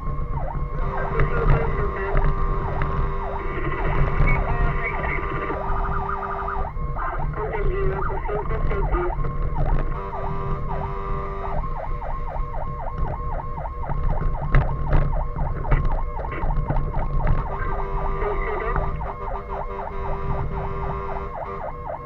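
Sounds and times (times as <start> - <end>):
fire engine siren yelping: 0.0 - 22.0
truck engine rumble: 0.0 - 22.0.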